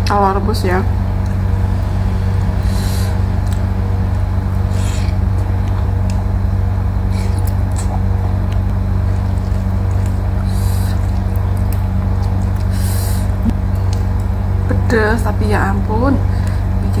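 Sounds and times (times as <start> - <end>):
loud low hum: 0.0 - 17.0.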